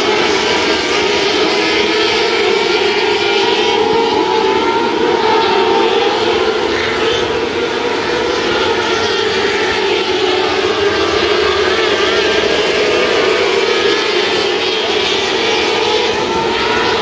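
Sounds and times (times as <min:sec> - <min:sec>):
racing car engines at high revs: 0:00.0 - 0:17.0.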